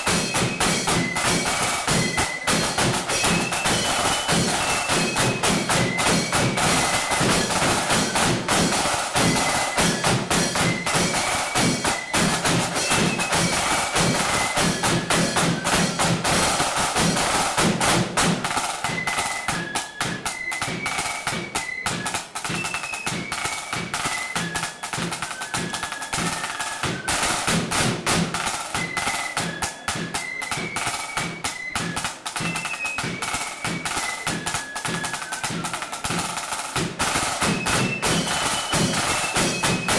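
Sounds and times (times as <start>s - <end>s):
fast continuous drumming: 0.0s - 39.9s
flutes playing high melody: 0.0s - 39.9s.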